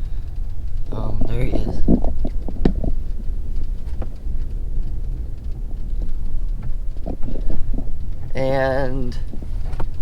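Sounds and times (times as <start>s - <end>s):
low vehicle rumble: 0.0s - 10.0s.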